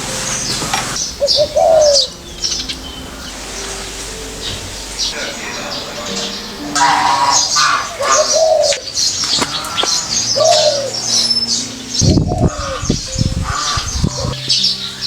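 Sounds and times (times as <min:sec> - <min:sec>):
dove cooing: 0:00.0 - 0:15.0
small birds chirping: 0:00.0 - 0:15.0.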